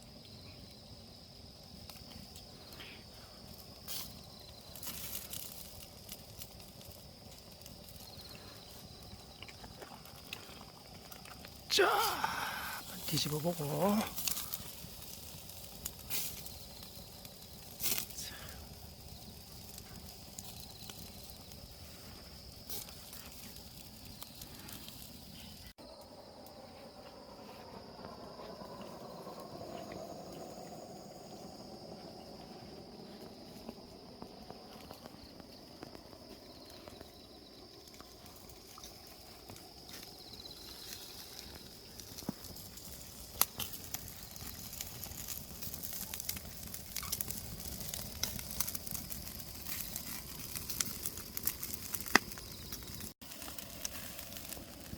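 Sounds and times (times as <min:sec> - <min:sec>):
chickens sizzling over charcoal: 0:00.0 - 0:26.0, 0:34.3 - 0:54.9.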